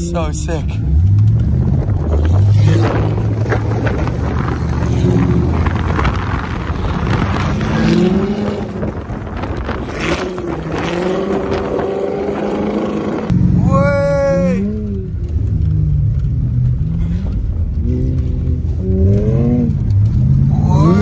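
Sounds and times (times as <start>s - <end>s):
steady rushing noise: 0.0s - 20.2s
sports car engines revving: 0.0s - 21.0s.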